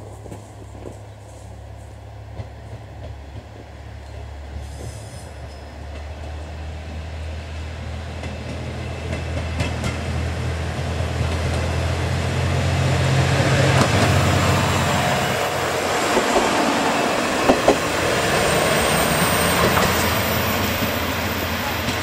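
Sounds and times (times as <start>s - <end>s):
diesel railcar engine drone: 0.0s - 22.0s.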